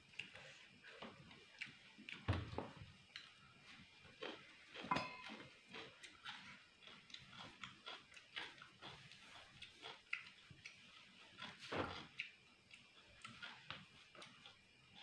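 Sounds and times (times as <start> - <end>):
person chewing: 0.1 - 2.3, 3.0 - 15.0.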